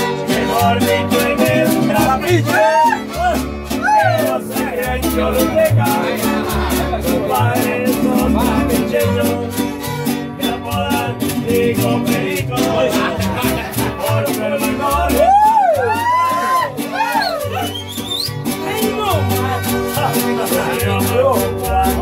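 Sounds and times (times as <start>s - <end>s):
fiddle melody: 0.0s - 11.2s, 14.9s - 21.9s
low bass notes: 0.0s - 22.0s
strummed acoustic guitar: 0.0s - 22.0s.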